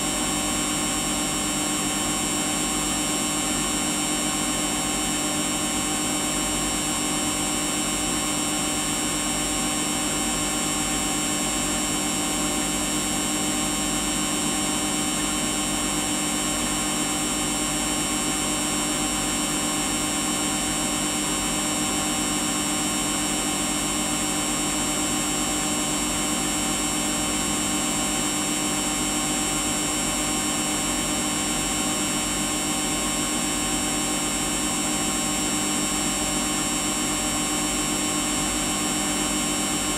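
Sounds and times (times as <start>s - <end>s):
washing machine motor whine: 0.0s - 39.9s.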